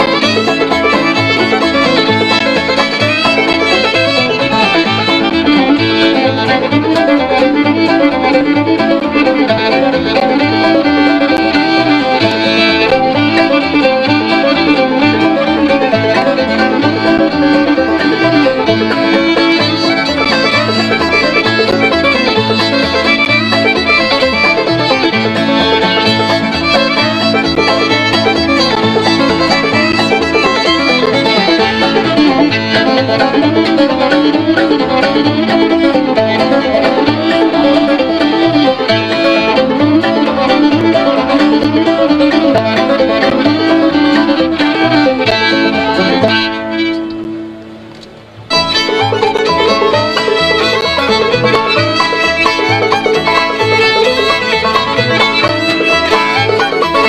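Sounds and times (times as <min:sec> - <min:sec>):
banjo plucking: 0:00.0 - 0:57.0
fiddle bowing: 0:00.0 - 0:57.0.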